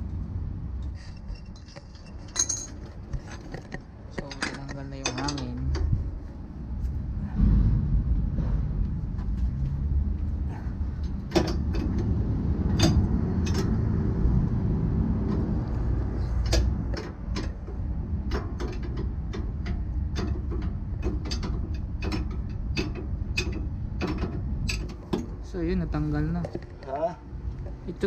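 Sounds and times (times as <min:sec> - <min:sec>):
low rumble: 0:00.0 - 0:04.2, 0:05.5 - 0:28.0.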